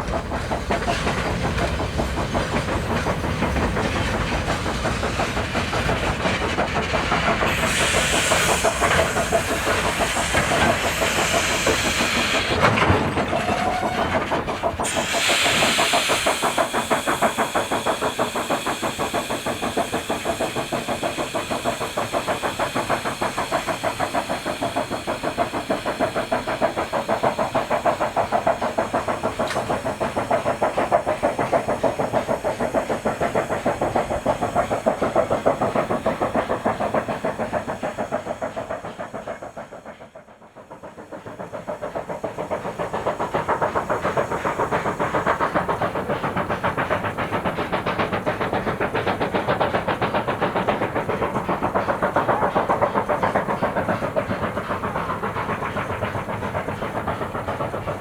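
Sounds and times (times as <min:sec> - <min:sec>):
steam locomotive exhaust beating: 0:00.0 - 0:58.0.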